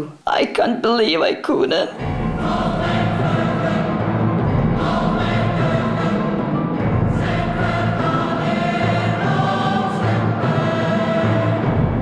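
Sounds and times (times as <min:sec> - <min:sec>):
choir singing held chords: 0:02.0 - 0:12.0.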